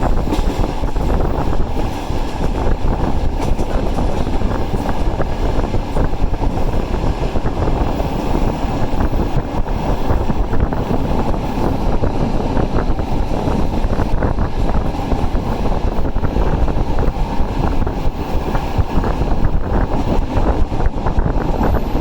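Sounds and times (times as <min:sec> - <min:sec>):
passenger train rumbling: 0:00.0 - 0:22.0
wind buffeting microphone: 0:00.0 - 0:22.0.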